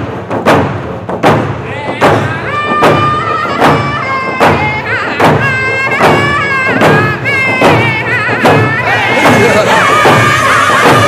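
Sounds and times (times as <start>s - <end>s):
hand drums beating: 0.0s - 11.0s
high-pitched group singing: 1.9s - 11.0s.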